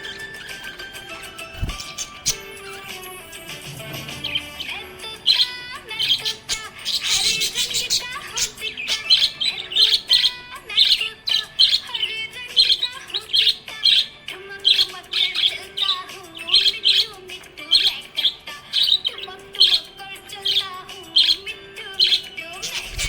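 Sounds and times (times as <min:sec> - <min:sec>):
budgerigar chirping: 0:00.0 - 0:02.9, 0:04.1 - 0:23.0.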